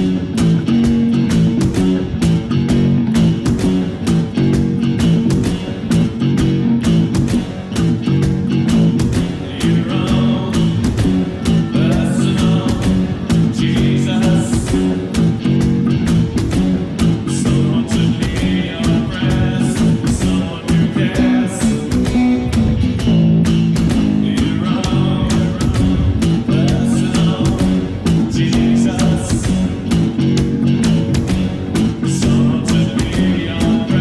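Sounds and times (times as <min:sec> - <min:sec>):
electric bass guitar: 0:00.0 - 0:34.0
full band backing track: 0:00.0 - 0:34.0.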